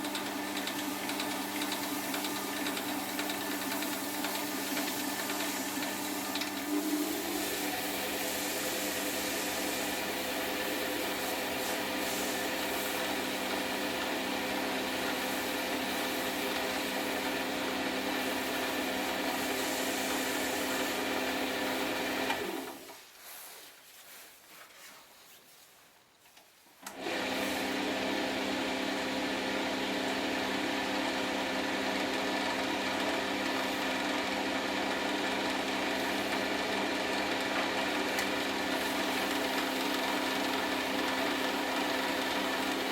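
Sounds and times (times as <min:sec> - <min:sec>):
wood lathe motor running: 0:00.0 - 0:22.8, 0:26.9 - 0:42.9.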